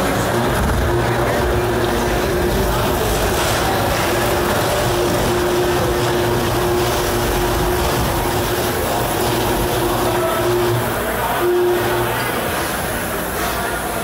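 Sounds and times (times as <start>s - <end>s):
electric motors whining: 0.0s - 14.0s
steady machine hum: 0.0s - 14.0s.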